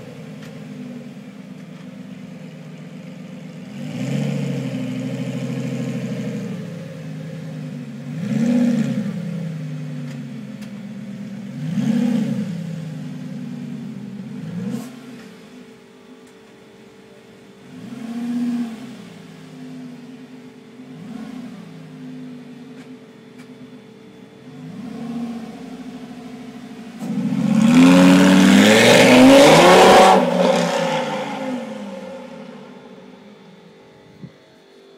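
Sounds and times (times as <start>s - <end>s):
sports car engine revving: 0.0s - 16.2s, 16.8s - 34.3s.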